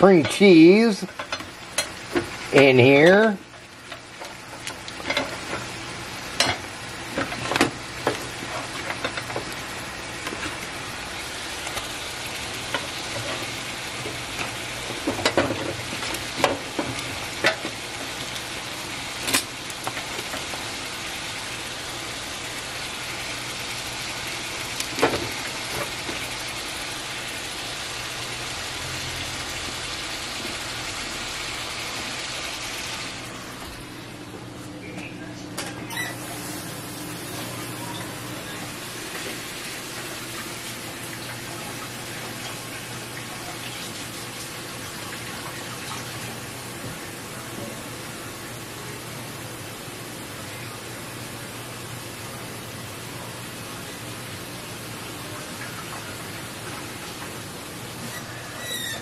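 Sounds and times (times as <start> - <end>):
chicken and onions sizzling in skillet: 0.0 - 34.0, 35.9 - 59.0.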